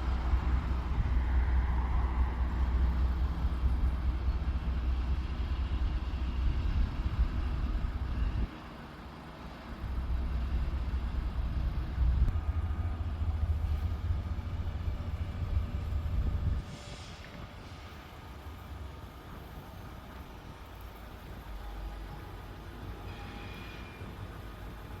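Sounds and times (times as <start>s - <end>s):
passing train rumble: 0.0s - 25.0s.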